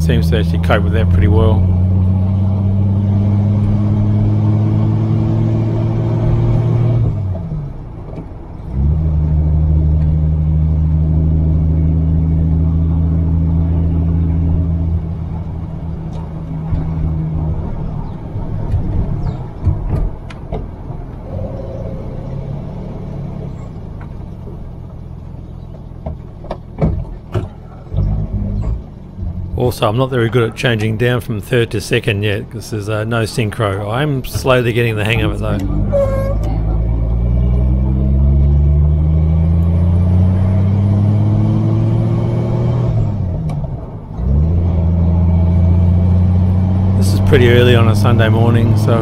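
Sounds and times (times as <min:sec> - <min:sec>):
car engine running: 0:00.0 - 0:41.5, 0:43.1 - 0:49.0.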